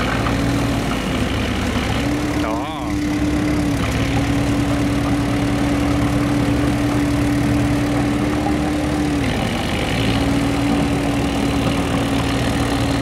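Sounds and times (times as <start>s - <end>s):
bulldozer diesel engine running hard: 0.0s - 13.0s.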